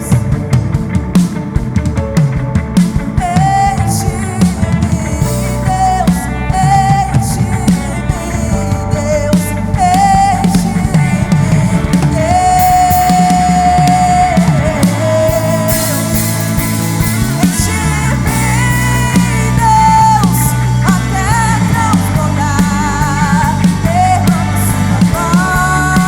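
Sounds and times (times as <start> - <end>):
bass guitar: 0.0 - 26.0
drums: 0.0 - 26.0
electric guitar: 0.0 - 26.0.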